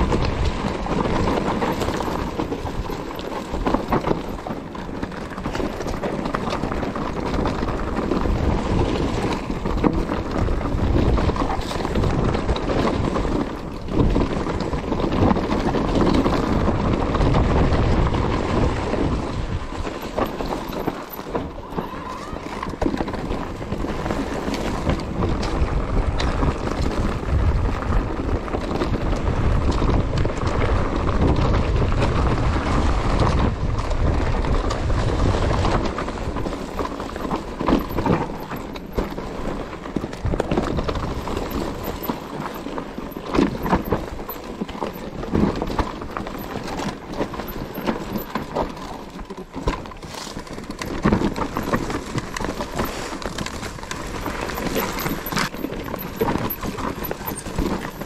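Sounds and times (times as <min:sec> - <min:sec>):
bike rattling and clattering: 0:00.0 - 0:58.0
bike tyres crunching over stones: 0:00.0 - 0:58.0
wind rumble on microphone: 0:00.0 - 0:58.0.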